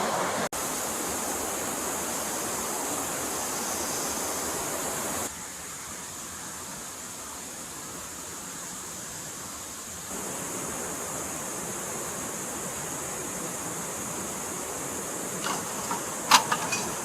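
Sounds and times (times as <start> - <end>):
forest stream flowing: 0.0 - 17.0.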